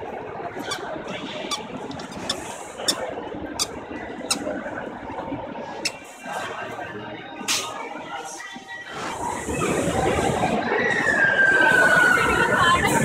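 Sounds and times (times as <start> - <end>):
crowd hubbub: 0.0 - 13.0.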